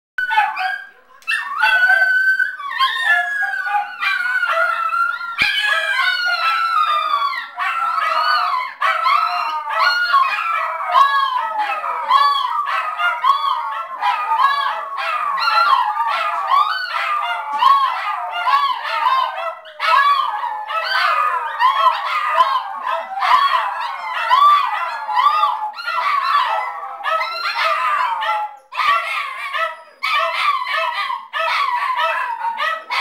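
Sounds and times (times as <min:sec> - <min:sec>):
small dogs howling: 0:00.2 - 0:33.0.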